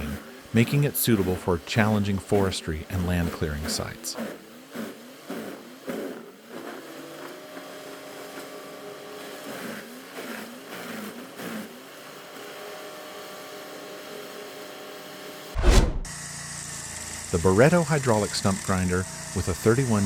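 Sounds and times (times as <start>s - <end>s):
wood grinder engine running: 0.0s - 14.0s, 16.9s - 20.0s.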